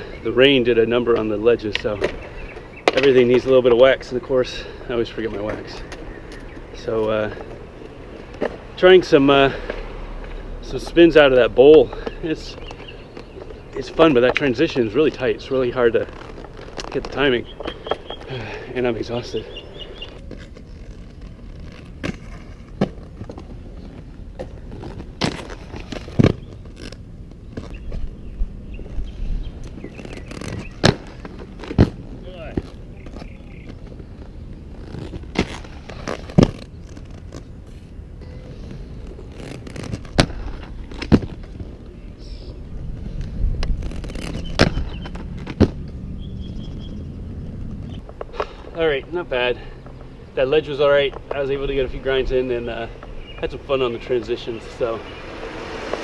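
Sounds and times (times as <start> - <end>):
inline skates rolling on concrete: 0.0 - 56.0.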